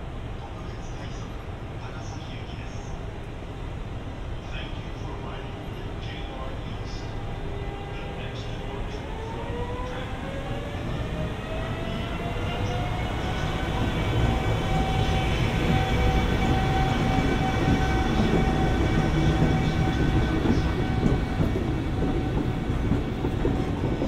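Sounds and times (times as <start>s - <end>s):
electric locomotive rumble and whine: 0.0s - 24.0s.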